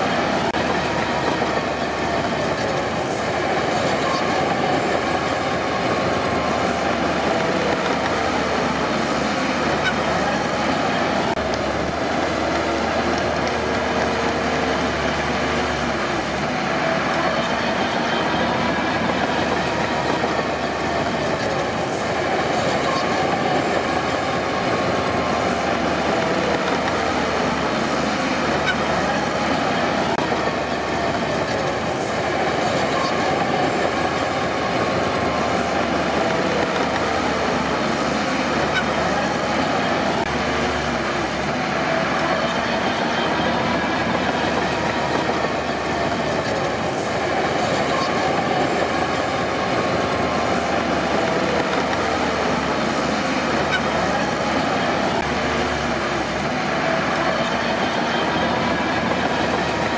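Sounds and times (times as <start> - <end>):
bulldozer diesel engine running: 0.0 - 59.9
clatter of steel tracks: 0.0 - 59.9.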